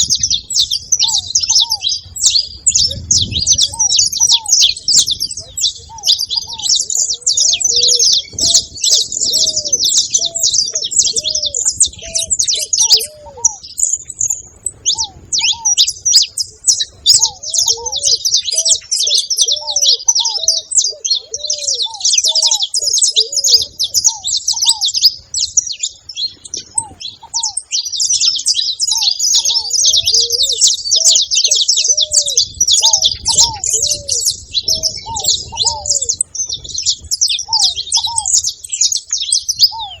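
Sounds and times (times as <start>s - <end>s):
finch chirping song: 0.0s - 40.0s.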